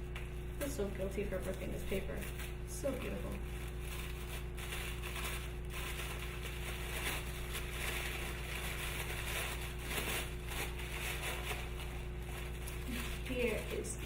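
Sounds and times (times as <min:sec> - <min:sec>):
tissue paper crinkling: 0:00.2 - 0:14.0.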